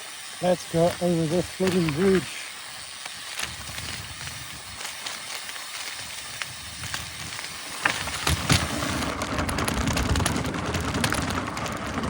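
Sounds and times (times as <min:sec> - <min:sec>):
bike tyres rushing: 0:00.0 - 0:12.0.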